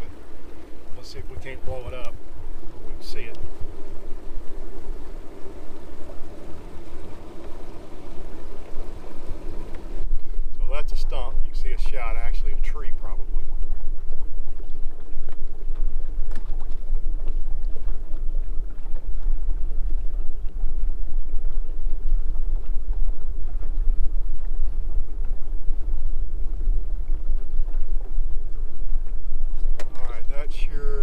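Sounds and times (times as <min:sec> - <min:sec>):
boat motor running: 0:00.0 - 0:31.0
water noise: 0:00.0 - 0:31.0
wind noise: 0:00.0 - 0:31.0.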